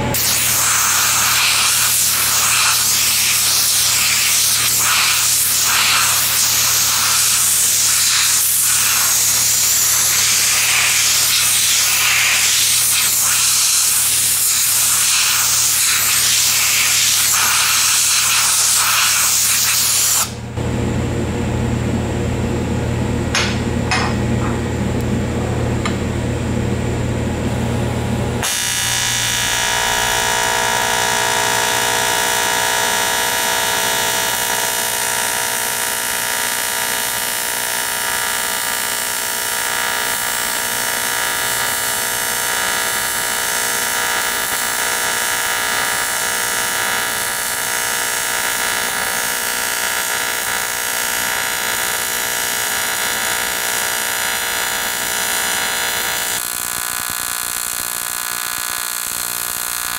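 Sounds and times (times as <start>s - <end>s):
welding arc buzzing: 0.0s - 20.6s, 28.4s - 59.9s.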